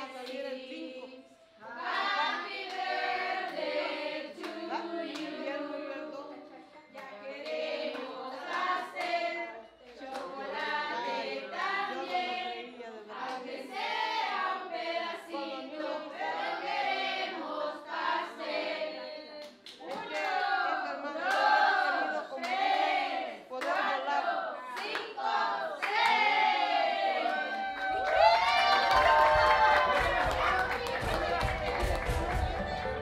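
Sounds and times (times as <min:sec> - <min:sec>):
group singing a birthday song: 0:00.0 - 0:27.6, 0:29.3 - 0:33.0.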